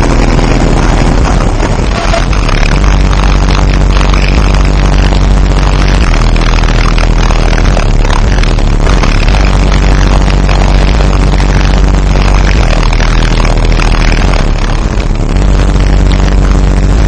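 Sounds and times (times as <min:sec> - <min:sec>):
bass-heavy hip-hop music: 0:00.0 - 0:17.0.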